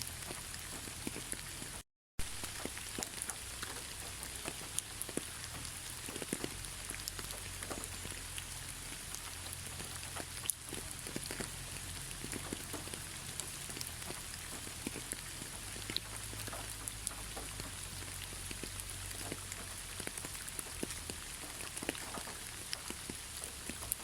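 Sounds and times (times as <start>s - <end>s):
raindrops ticking on a surface: 0.0s - 24.0s
steady rain hiss: 0.0s - 24.0s.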